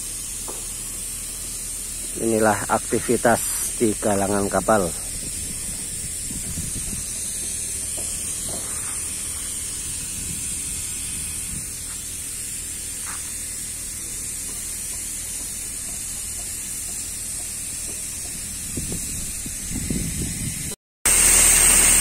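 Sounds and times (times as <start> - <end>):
high hiss: 0.0 - 22.0.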